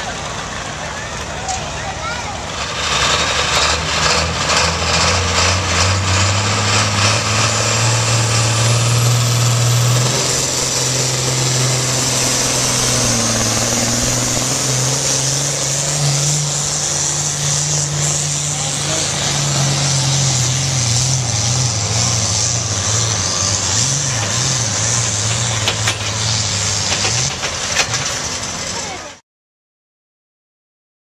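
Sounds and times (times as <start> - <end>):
tractor diesel engine droning: 0.0 - 29.2.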